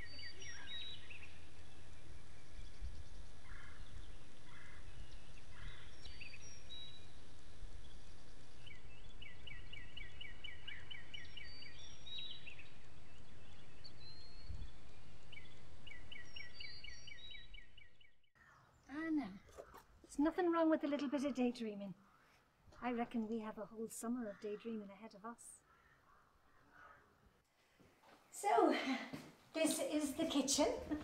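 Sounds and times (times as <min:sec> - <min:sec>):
birds chirping: 0:00.0 - 0:27.4, 0:29.6 - 0:31.0.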